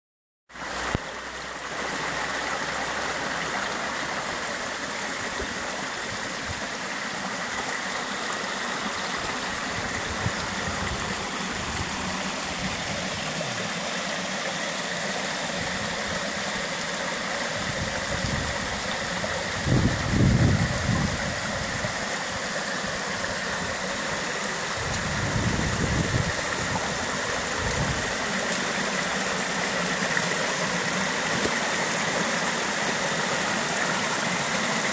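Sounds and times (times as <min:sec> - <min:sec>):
stream running over rocks: 0:00.5 - 0:34.9.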